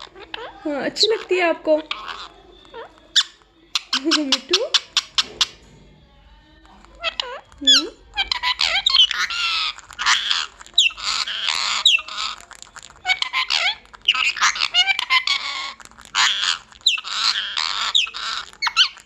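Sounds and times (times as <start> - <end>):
parrot squawking: 0.0 - 5.6, 6.9 - 19.0.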